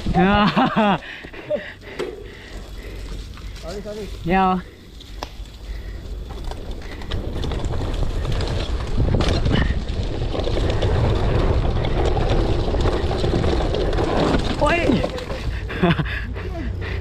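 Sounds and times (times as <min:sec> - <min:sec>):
bike rumbling on dirt trail: 0:00.0 - 0:17.0.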